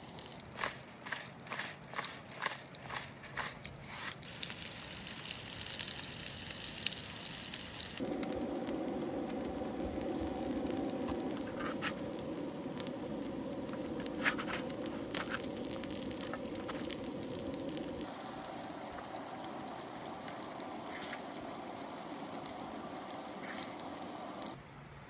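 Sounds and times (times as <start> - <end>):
food sizzling on a griddle: 4.2 - 24.6.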